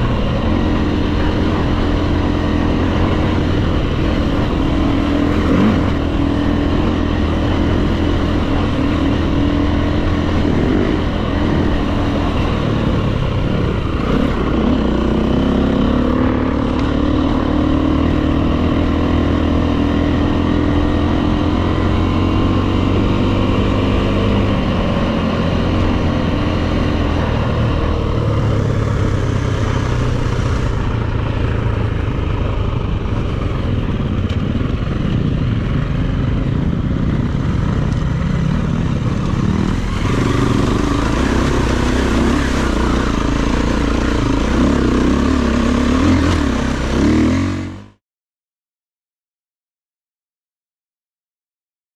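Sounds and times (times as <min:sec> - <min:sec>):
dirt bike engine revving: 0:00.0 - 0:31.6, 0:37.0 - 0:48.0.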